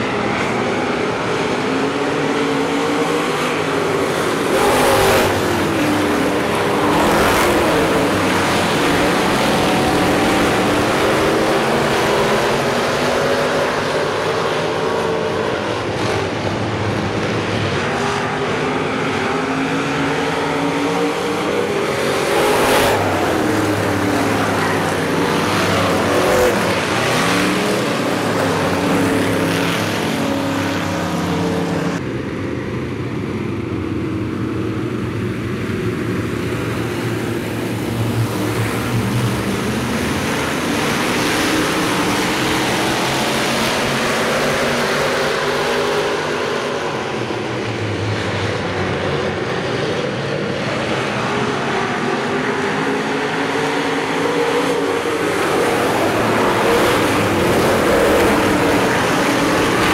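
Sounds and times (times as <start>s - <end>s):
race car engines passing: 0.0s - 59.9s.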